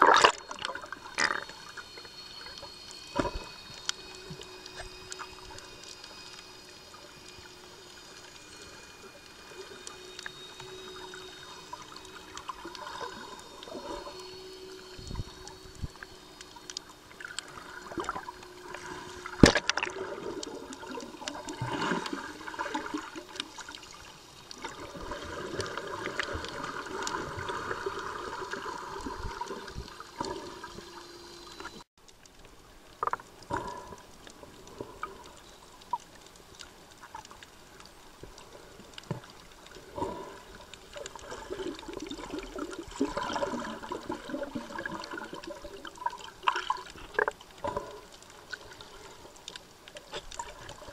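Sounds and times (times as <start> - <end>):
muffled underwater water noise: 0.0 - 50.9.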